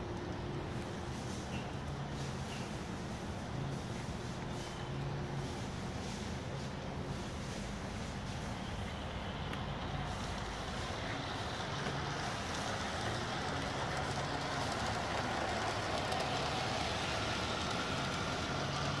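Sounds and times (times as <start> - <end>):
model train whirring on rails: 0.0 - 19.0.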